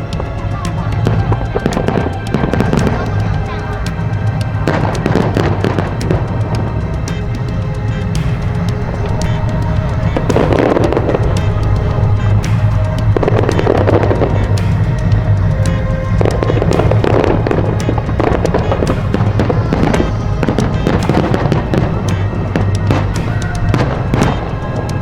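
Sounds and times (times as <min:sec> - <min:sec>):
fireworks bursting and crackling: 0:00.0 - 0:25.0
music with low bass: 0:00.0 - 0:25.0.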